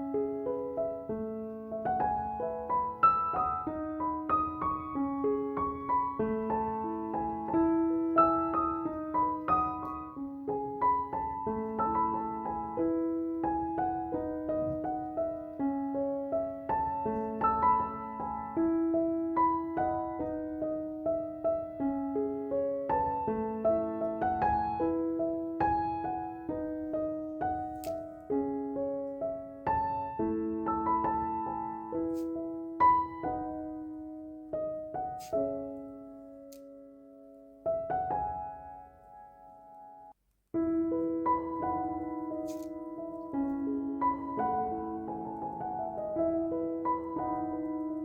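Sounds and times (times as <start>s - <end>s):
gentle solo piano: 0.0s - 48.0s.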